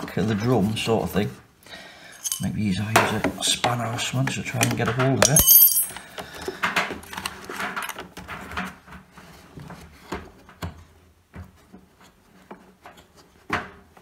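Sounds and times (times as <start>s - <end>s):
hands tapping and scraping dryer parts: 2.2s - 14.0s.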